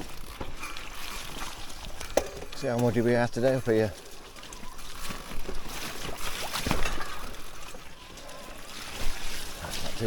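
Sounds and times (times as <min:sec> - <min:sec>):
bike tyres rolling through mud: 0:00.0 - 0:10.0
water sloshing and splashing: 0:00.0 - 0:10.0.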